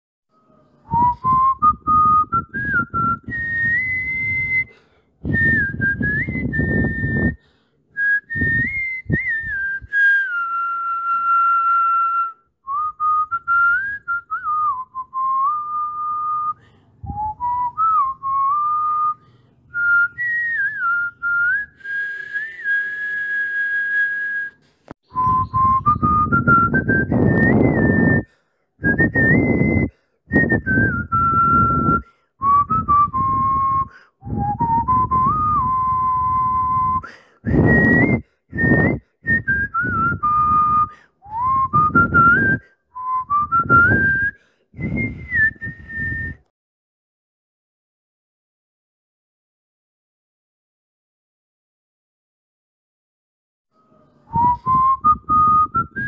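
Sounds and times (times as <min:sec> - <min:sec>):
whistled melody: 0:00.3 - 0:07.4, 0:08.0 - 0:46.5, 0:53.7 - 0:56.0.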